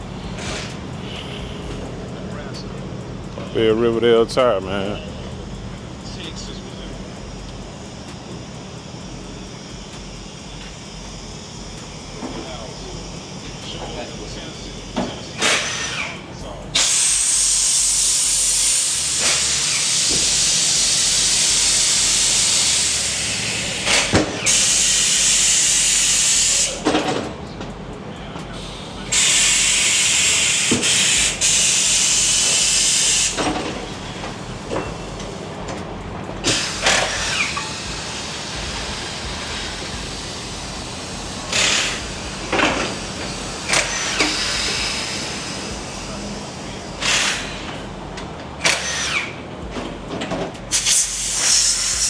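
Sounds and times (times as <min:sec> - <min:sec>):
compressed air hissing: 0:00.0 - 0:27.2, 0:28.5 - 0:49.6, 0:50.7 - 0:52.0.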